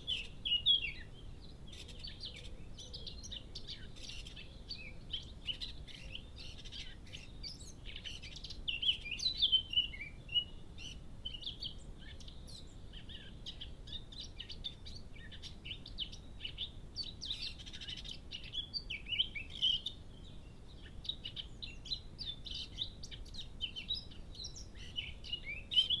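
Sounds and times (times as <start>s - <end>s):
bird warbling song: 0.0s - 26.0s
quiet bird chirps: 0.0s - 26.0s.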